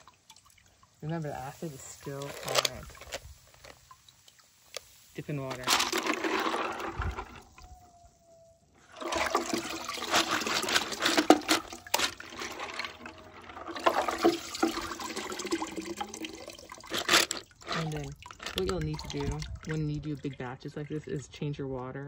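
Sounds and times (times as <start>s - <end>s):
water sloshing in a bucket: 0.0s - 22.0s.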